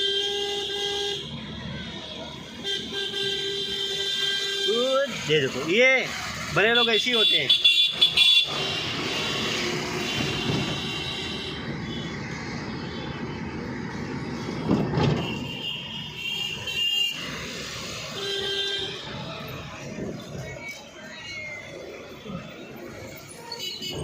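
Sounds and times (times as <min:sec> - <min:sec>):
car engine and road noise: 0:00.0 - 0:24.0
street traffic: 0:00.0 - 0:24.0.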